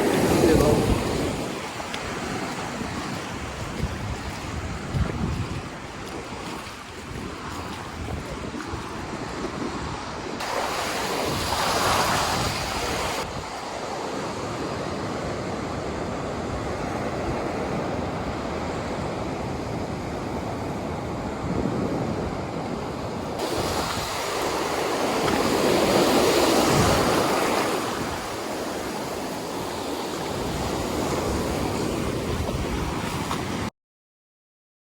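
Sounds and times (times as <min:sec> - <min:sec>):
wind buffeting microphone: 0:00.0 - 0:13.8, 0:15.9 - 0:33.7
ocean surf breaking: 0:00.0 - 0:33.7.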